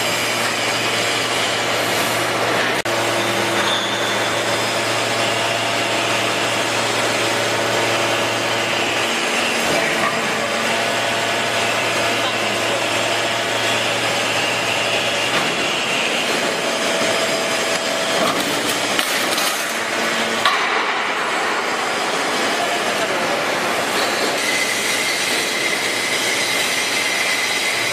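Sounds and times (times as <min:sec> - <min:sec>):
hydraulic machine running: 0:00.0 - 0:27.9.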